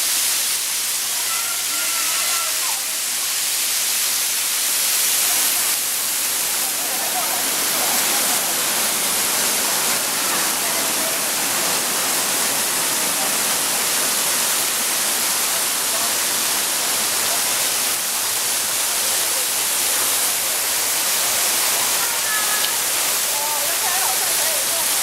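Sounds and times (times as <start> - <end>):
fountain water jets splashing: 0.0 - 25.0.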